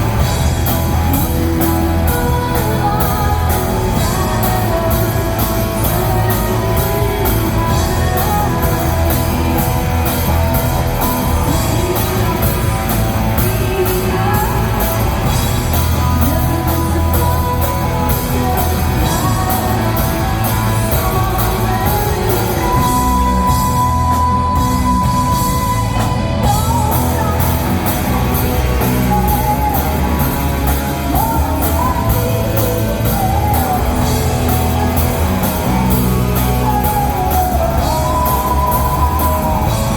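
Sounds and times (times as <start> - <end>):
rock music with singing: 0.0 - 39.9.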